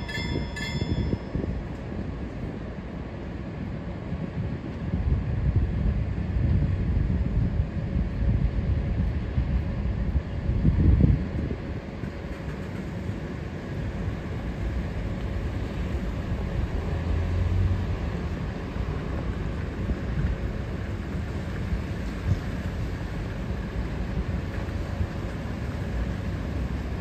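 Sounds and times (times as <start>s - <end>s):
low outdoor drone: 0.0s - 27.0s
wind rumbling on microphone: 0.0s - 27.0s.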